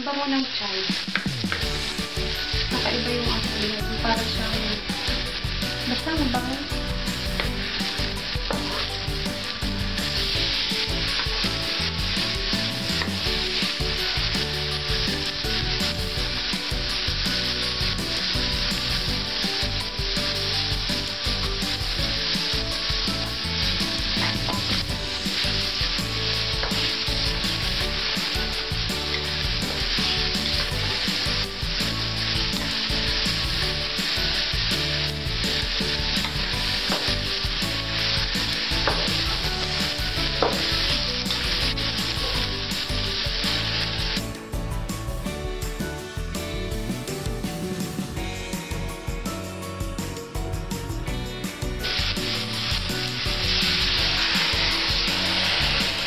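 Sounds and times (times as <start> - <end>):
vegetables sizzling in hot oil: 0.0 - 45.3, 51.4 - 56.0.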